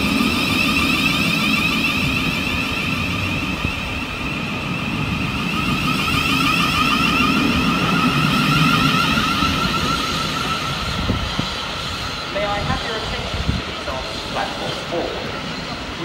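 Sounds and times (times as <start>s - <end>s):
electric train whine: 0.0s - 16.0s
train low rumble: 0.0s - 16.0s.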